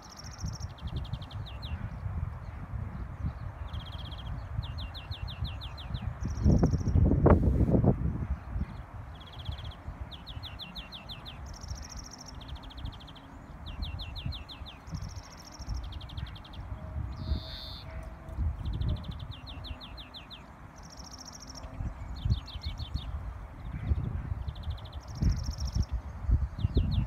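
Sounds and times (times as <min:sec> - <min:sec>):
bird trilling song: 0:00.0 - 0:07.1, 0:08.3 - 0:27.0
wind rumble on microphone: 0:00.0 - 0:27.0.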